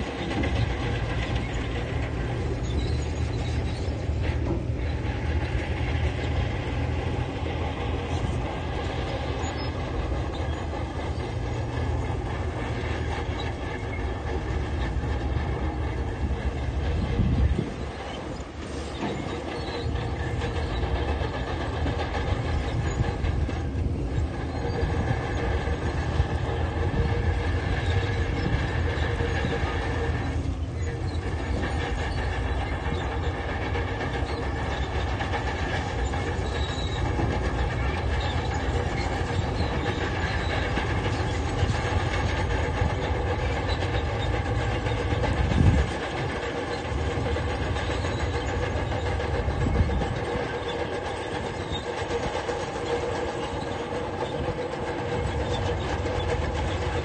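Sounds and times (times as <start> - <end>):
crawler tracks clattering: 0.0 - 57.0
diesel engine drone with whine: 0.0 - 57.0.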